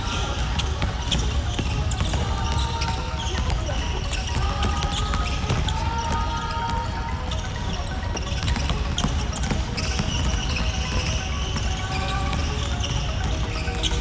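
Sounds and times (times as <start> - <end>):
basketballs bouncing on hardwood: 0.0 - 14.0
electronic background music: 0.0 - 14.0.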